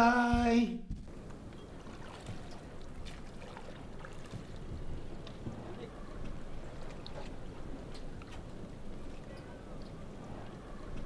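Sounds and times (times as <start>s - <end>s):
water lapping around boats: 1.0s - 11.0s.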